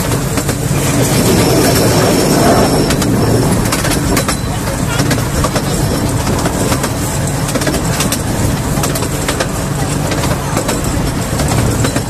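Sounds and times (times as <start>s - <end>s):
railway carriage rumble and rattle: 0.0s - 12.0s
wheels clicking on track: 0.0s - 12.0s.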